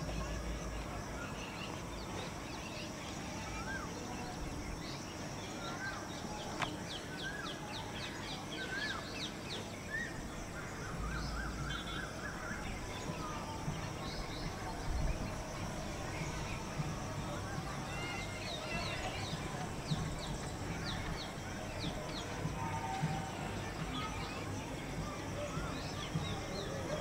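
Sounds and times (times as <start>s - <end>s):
outdoor background noise: 0.0s - 27.0s
small birds chirping: 0.0s - 27.0s.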